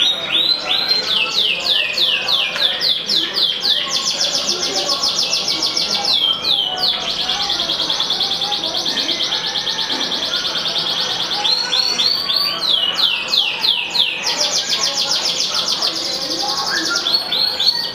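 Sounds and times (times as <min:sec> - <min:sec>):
canary singing trills: 0:00.0 - 0:17.9.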